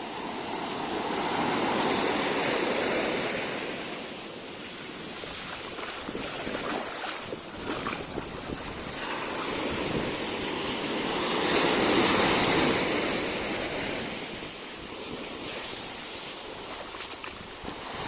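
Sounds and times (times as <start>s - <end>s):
sea waves on the shore: 0.0s - 18.0s.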